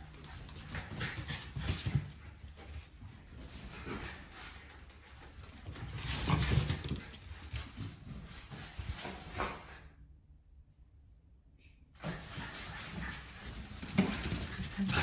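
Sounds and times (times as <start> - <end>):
dogs scuffling and thumping: 0.0 - 9.8, 12.0 - 15.0.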